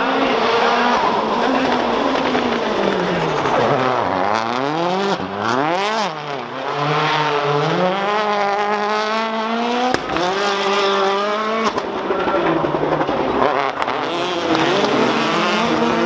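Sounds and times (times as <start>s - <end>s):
car engine revving hard: 0.0s - 11.8s, 13.3s - 16.0s.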